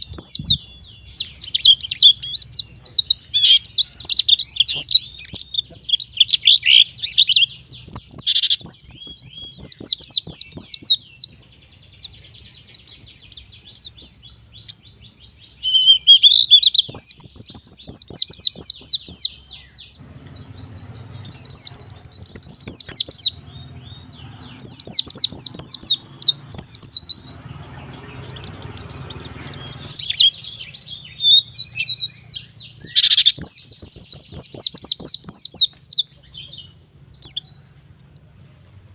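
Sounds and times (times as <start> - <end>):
bird singing rapid high notes: 0.0 - 38.9.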